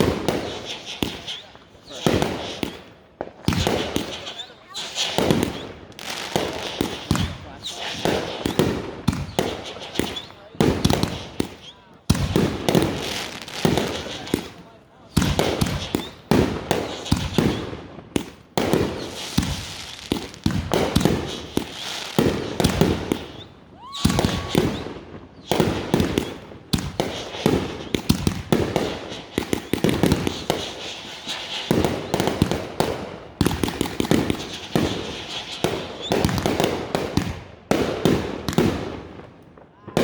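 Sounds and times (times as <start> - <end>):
fireworks banging and crackling: 0.0 - 40.0.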